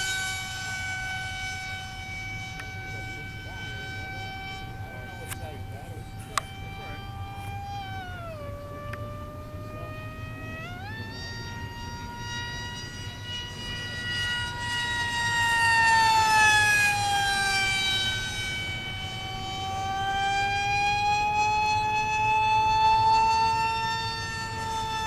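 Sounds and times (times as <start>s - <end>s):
model jet motor whining: 0.0s - 25.0s.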